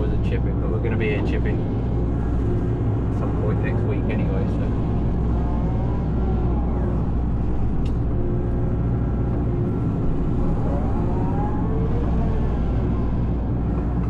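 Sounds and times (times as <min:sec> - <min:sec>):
excavator diesel engine running: 0:00.0 - 0:14.0
faint rising whine: 0:00.0 - 0:14.0.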